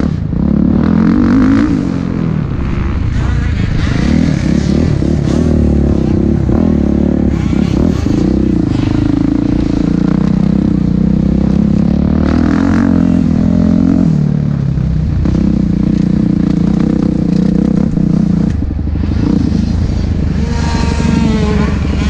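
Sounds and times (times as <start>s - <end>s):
motocross bike engine: 0.0s - 22.0s.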